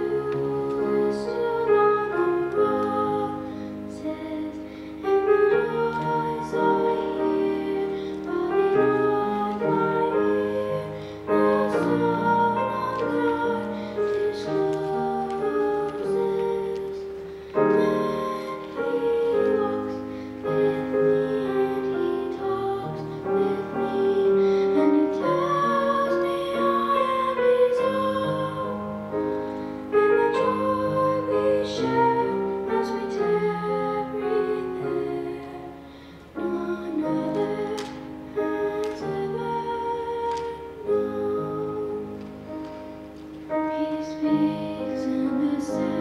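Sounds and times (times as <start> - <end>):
girl singing a hymn: 0.0 - 46.0
piano: 0.0 - 46.0.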